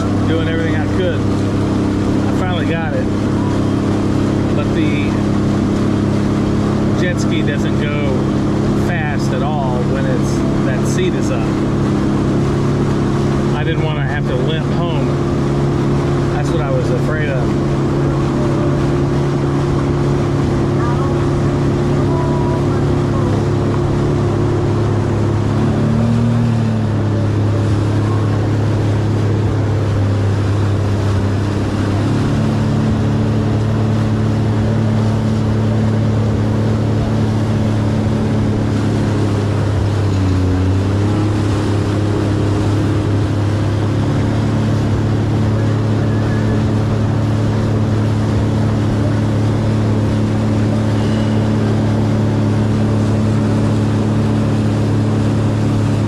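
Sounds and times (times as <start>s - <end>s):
jet ski engine running: 0.0s - 56.0s.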